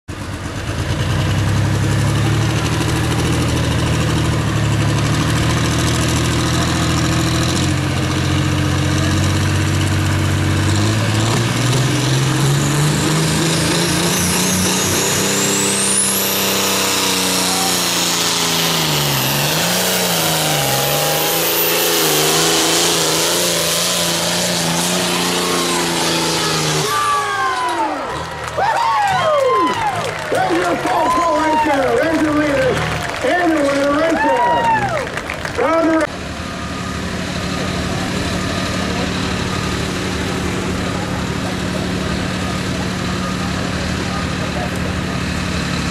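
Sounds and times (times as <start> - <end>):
diesel tractor engine under load: 0.1 - 45.9.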